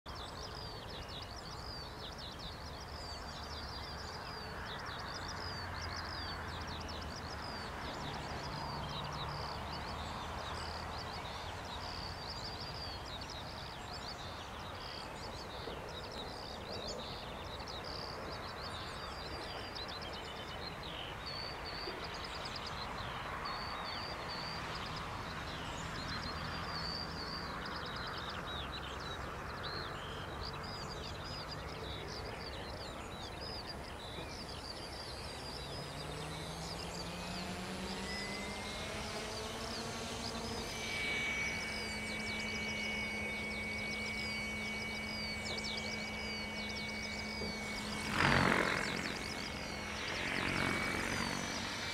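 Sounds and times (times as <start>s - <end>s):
birds chirping and singing: 0.1s - 51.9s
faint low hum: 0.1s - 51.9s
outdoor background hiss: 0.1s - 51.9s.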